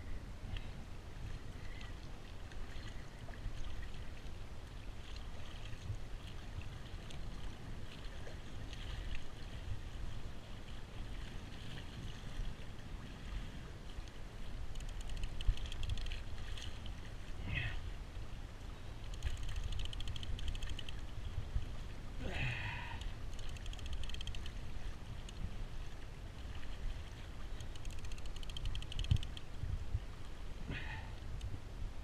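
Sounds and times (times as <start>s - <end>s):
water lapping against kayak hull: 0.5s - 31.3s.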